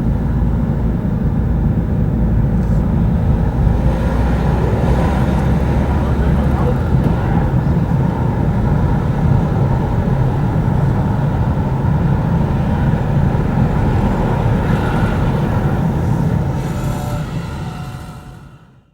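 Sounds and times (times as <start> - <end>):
car engines running: 0.0 - 18.9.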